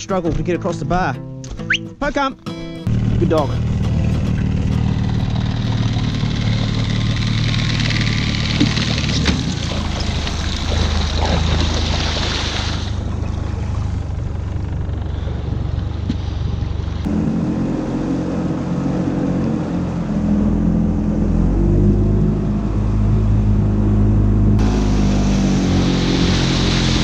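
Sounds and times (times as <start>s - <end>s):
boat wake rushing and splashing: 2.8s - 27.0s
outboard motor running: 2.8s - 27.0s.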